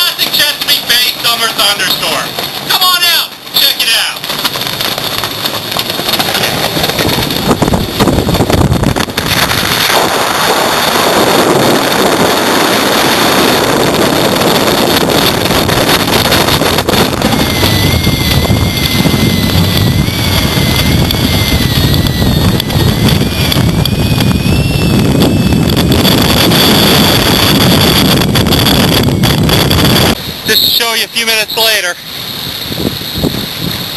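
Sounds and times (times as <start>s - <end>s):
wind gusting across microphone: 0.0s - 33.9s.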